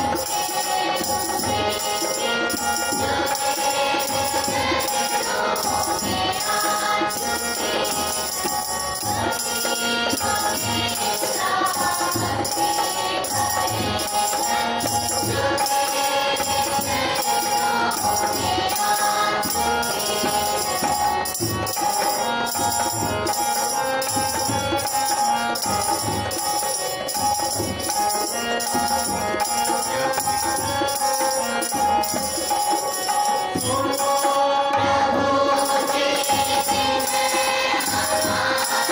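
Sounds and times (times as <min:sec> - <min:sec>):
group singing a prayer song: 0:00.0 - 0:38.9
hand drums: 0:00.0 - 0:38.9
jingling percussion beat: 0:00.0 - 0:38.9.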